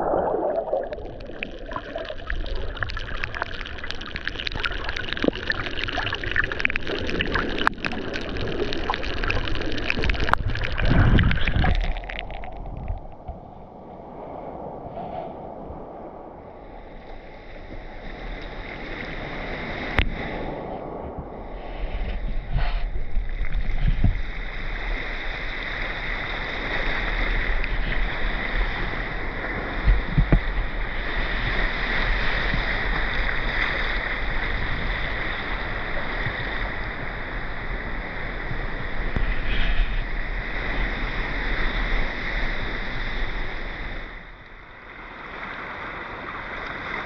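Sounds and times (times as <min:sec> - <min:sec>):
water rushing and surging: 0:00.0 - 0:47.0.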